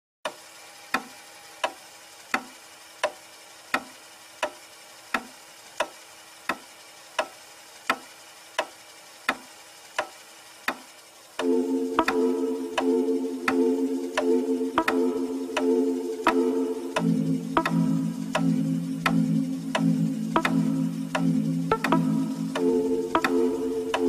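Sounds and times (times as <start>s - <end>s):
clock ticking: 0.3s - 24.0s.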